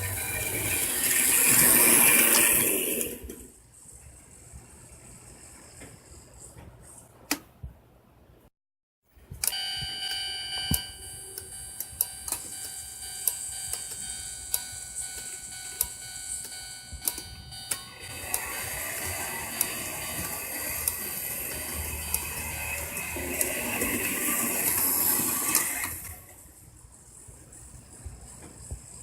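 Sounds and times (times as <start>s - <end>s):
electrical whine: 0.0s - 6.5s, 9.4s - 29.0s.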